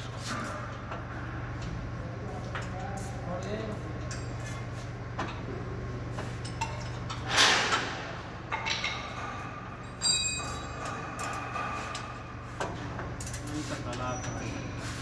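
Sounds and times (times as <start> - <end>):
mill hall low hum: 0.0 - 15.0.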